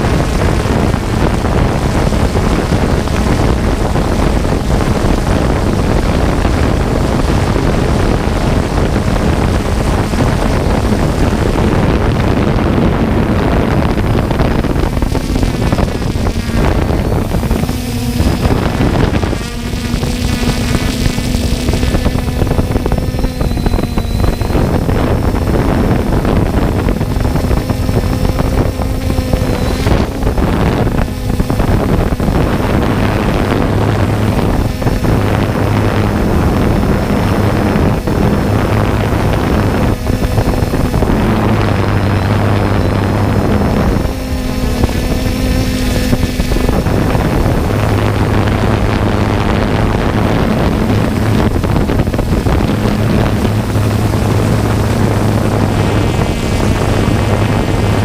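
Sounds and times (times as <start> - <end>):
drone propellers humming: 0.0 - 58.0
wind buffeting microphone: 0.0 - 58.0.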